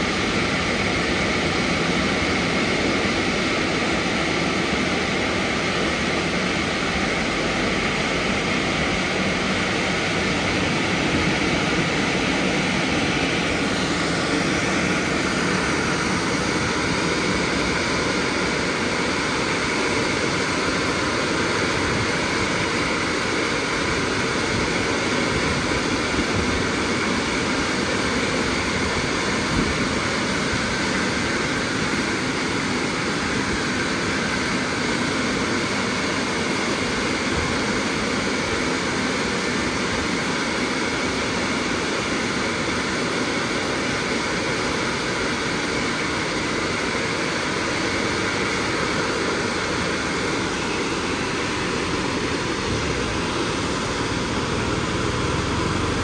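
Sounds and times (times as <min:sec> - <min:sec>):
car wash blowers rushing air: 0:00.0 - 0:56.0.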